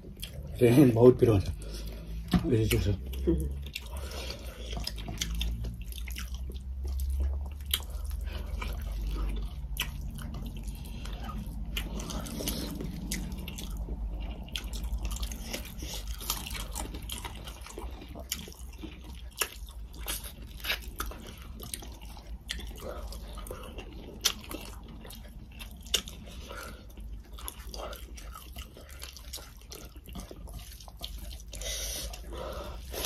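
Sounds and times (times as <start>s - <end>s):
low steady hum: 0.0s - 33.0s
wet chewing: 0.0s - 33.0s.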